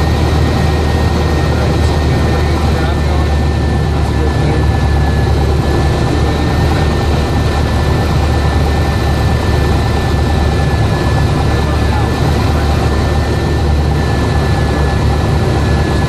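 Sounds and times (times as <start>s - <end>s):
faint steady whine: 0.0s - 16.0s
propeller engine drone: 0.0s - 16.0s.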